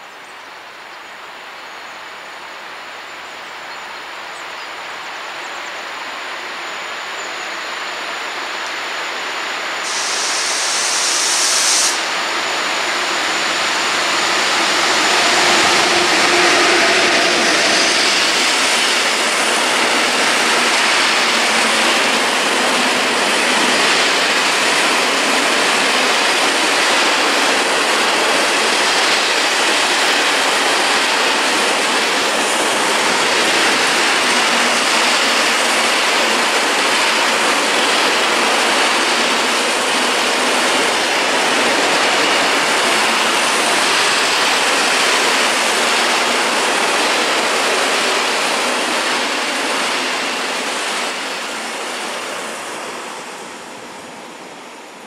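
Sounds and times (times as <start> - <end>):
train wheels rushing on rails: 1.0 - 55.0.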